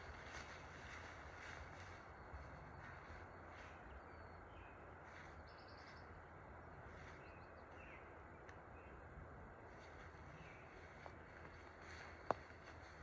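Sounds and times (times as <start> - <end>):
low hiss and rumble: 0.0 - 13.0.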